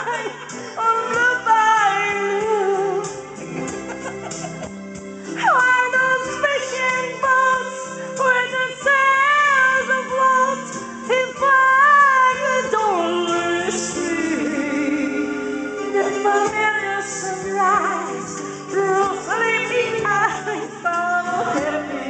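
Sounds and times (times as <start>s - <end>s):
backing track music: 0.0s - 22.0s
person singing with vibrato: 0.0s - 22.0s.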